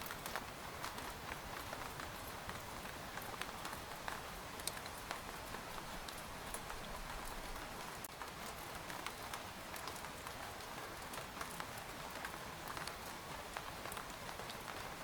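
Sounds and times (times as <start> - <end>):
rain falling on a tent: 0.0 - 15.0.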